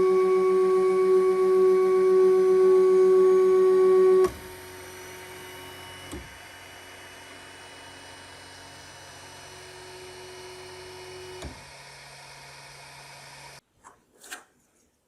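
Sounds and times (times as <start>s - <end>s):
printer motor whine: 0.0s - 13.6s.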